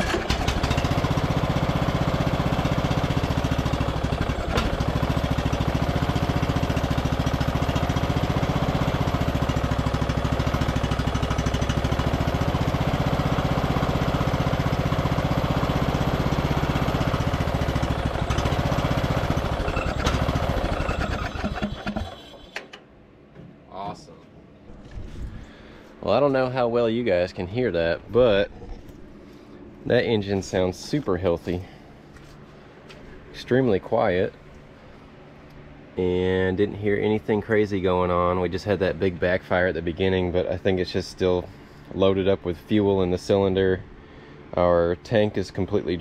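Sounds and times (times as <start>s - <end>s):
riding mower engine idling: 0.0s - 23.0s, 25.4s - 46.0s.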